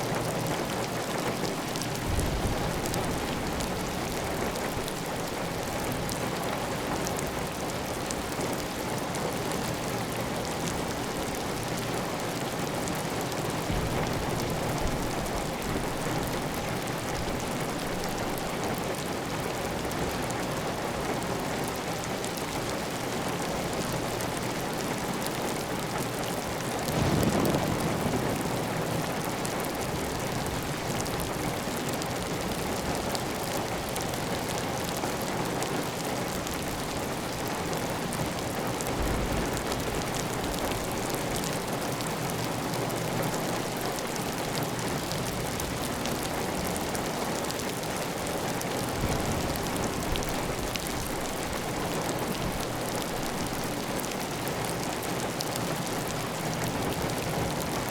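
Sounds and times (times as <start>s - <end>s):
heavy rain on a tile roof: 0.0s - 57.9s.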